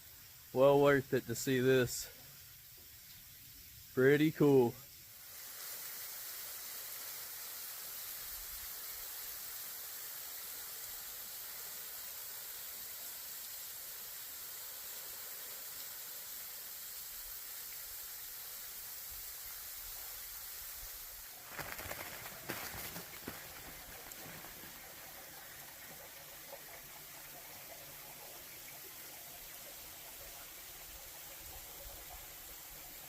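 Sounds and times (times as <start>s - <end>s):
faint outdoor background hiss: 0.0s - 33.0s.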